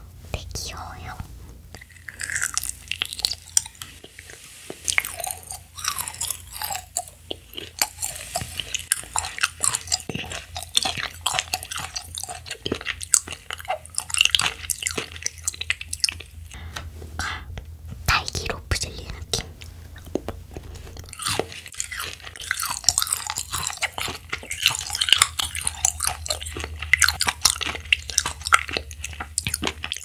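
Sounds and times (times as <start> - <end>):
chewing clicking mouth sounds: 1.7 - 4.2, 4.9 - 16.6, 18.1 - 30.0.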